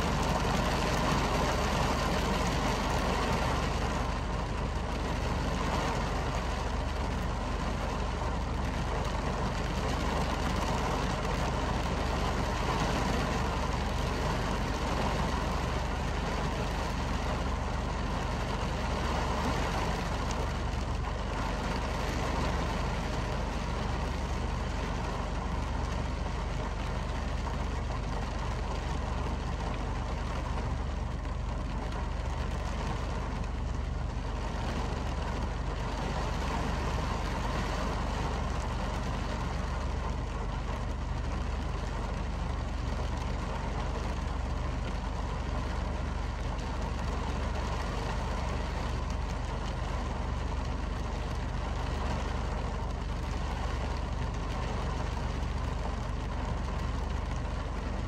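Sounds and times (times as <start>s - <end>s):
heavy rain against a window: 0.0s - 58.0s.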